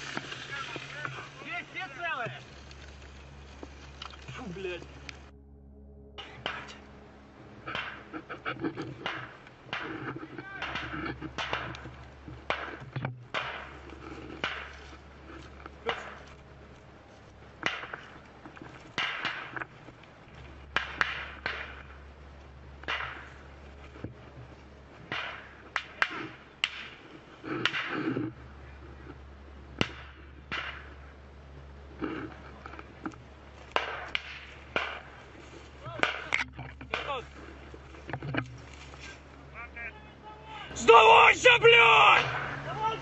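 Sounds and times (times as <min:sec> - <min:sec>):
brush rustling: 0:00.0 - 0:05.4, 0:06.2 - 0:29.7, 0:30.3 - 0:43.0.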